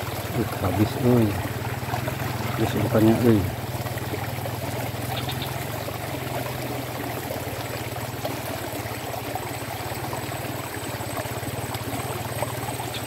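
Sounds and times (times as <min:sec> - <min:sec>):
running water in ditch: 0:00.0 - 0:13.0.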